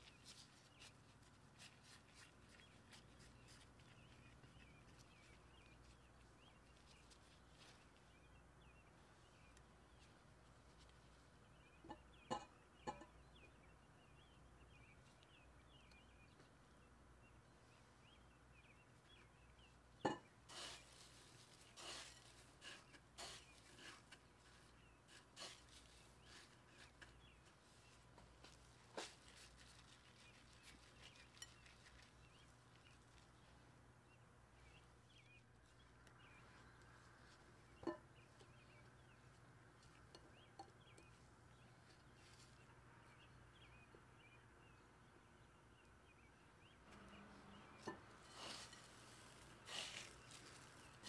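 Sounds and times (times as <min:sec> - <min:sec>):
crunching rustles of breadcrumbs: 0:00.0 - 0:11.8, 0:17.6 - 0:43.8, 0:46.9 - 0:51.0.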